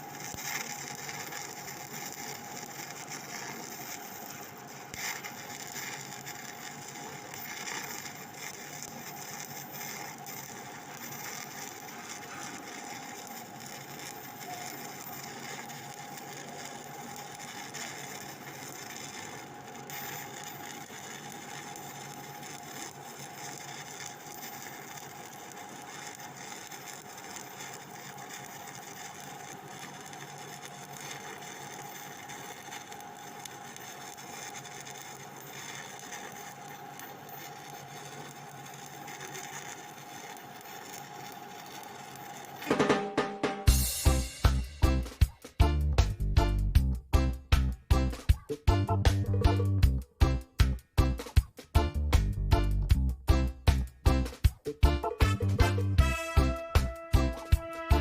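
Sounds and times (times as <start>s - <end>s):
welding arc crackling: 0.0s - 58.0s.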